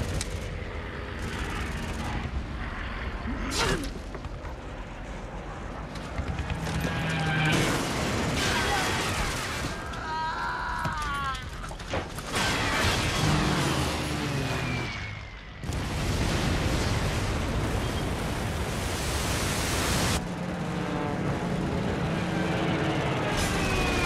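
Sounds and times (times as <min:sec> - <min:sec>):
explosions and fire roaring: 0:00.0 - 0:20.3, 0:23.0 - 0:24.0.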